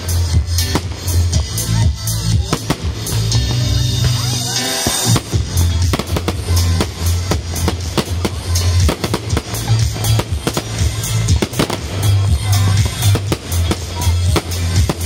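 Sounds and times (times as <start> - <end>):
fireworks bangs and crackles: 0.0 - 15.0
loud music with heavy bass: 0.0 - 15.0.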